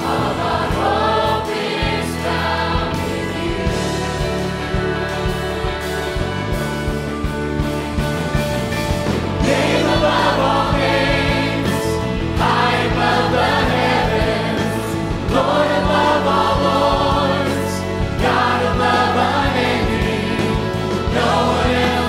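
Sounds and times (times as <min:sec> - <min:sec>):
choir singing: 0:00.0 - 0:06.5, 0:09.4 - 0:22.0
piano accompaniment: 0:00.0 - 0:22.0.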